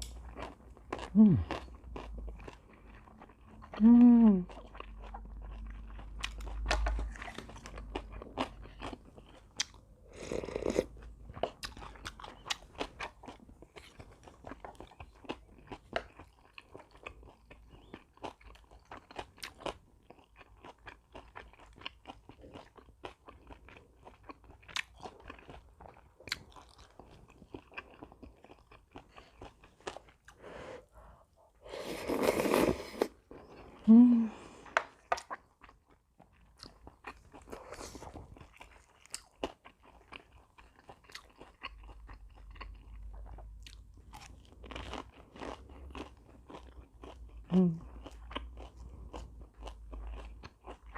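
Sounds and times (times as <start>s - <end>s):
person crunching and chewing: 0.0s - 3.8s, 4.4s - 30.4s, 34.6s - 50.9s.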